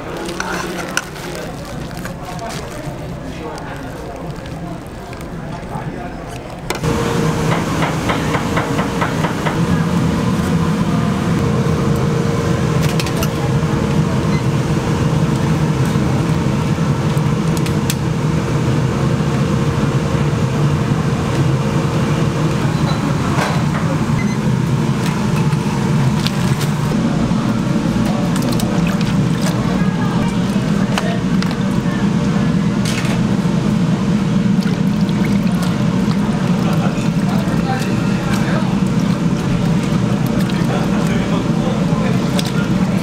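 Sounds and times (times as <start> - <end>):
pot at a rolling boil: 0.0 - 43.0
steady hum: 0.0 - 43.0.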